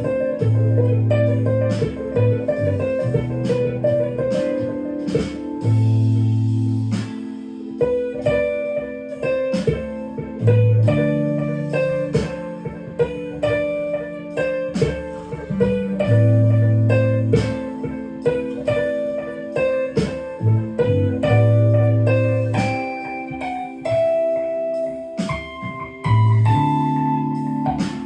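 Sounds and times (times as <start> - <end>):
low bass notes: 0.0 - 28.0.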